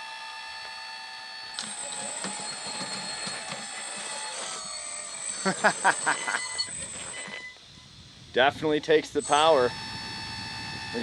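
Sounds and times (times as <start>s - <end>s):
hydraulic pump whining: 0.2s - 11.0s.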